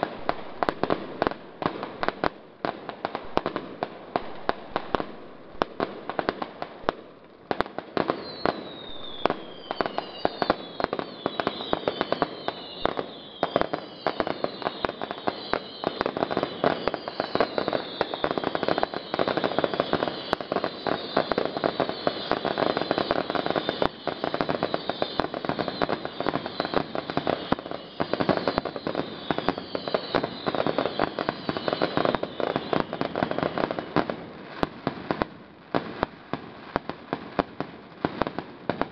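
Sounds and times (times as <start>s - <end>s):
fireworks crackling and popping: 0.0s - 38.9s
fireworks falling whistles: 0.0s - 38.9s.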